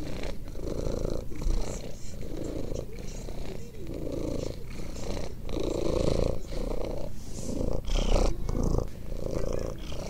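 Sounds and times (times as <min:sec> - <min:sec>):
kitten purring: 0:00.0 - 0:10.0.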